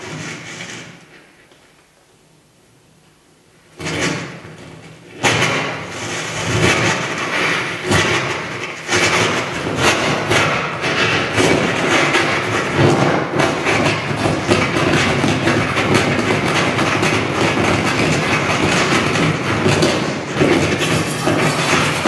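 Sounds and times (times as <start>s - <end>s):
dense noisy clatter with hits: 0.0s - 1.4s, 3.7s - 22.0s.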